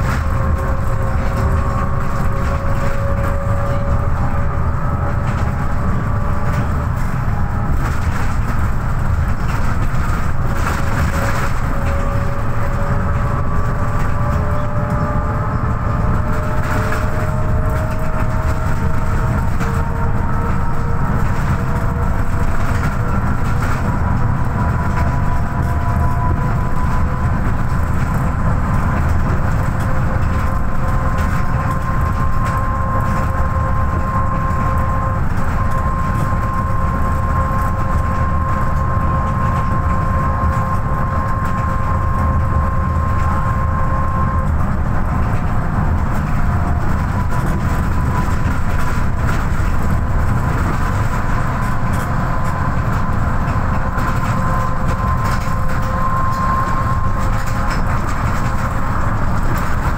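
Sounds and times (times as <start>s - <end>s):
bus diesel engine rumble: 0.0s - 59.9s
road noise: 0.0s - 59.9s.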